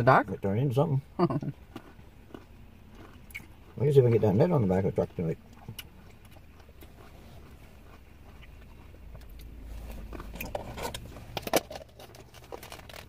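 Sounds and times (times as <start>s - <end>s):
chewing: 1.4s - 13.0s.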